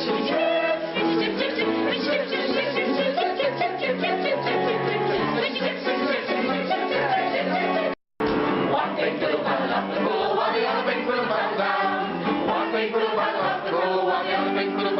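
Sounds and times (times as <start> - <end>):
voices singing together: 0.0 - 8.0, 8.6 - 14.9
instrumental backing music: 0.0 - 14.9.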